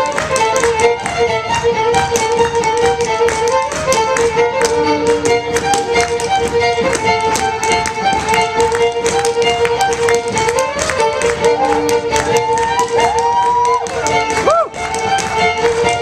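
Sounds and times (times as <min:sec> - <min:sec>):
fiddle playing lively tune: 0:00.0 - 0:16.0
step-dancing shoes tapping wood: 0:00.0 - 0:16.0.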